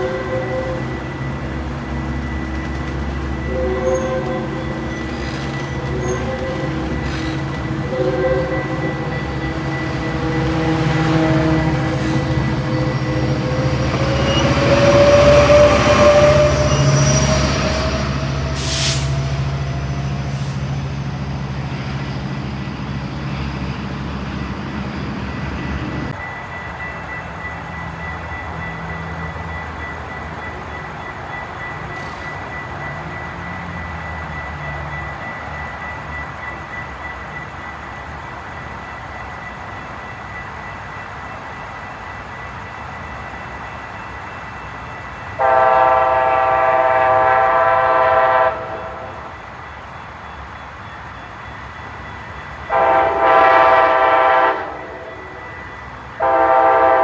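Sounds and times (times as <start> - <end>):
diesel train passing: 0.0 - 57.0
train wheel squeal: 0.0 - 57.0.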